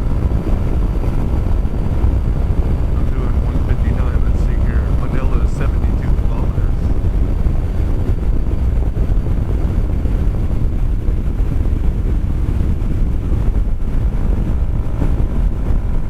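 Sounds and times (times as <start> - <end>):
low wind rumble on microphone: 0.0 - 16.0.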